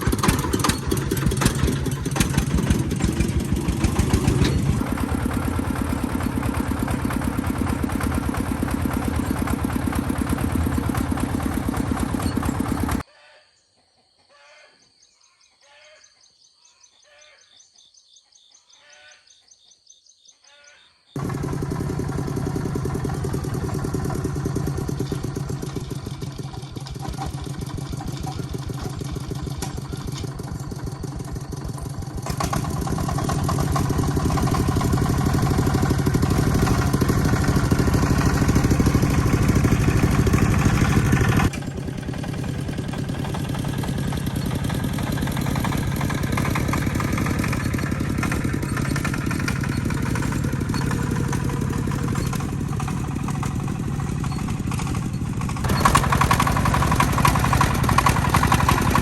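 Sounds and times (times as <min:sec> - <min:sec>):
engine running: 0:00.0 - 0:13.0, 0:21.2 - 0:59.0.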